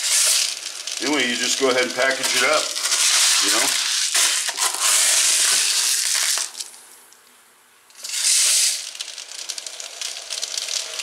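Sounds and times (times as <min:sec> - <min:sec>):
lead pellets rattling in plastic tub: 0:00.0 - 0:06.8, 0:08.0 - 0:11.0.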